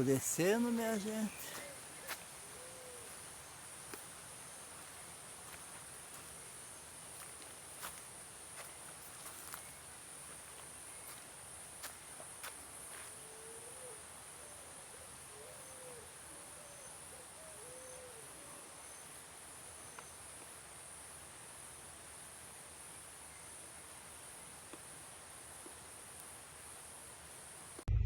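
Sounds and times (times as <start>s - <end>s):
insects trilling: 0.0s - 27.8s.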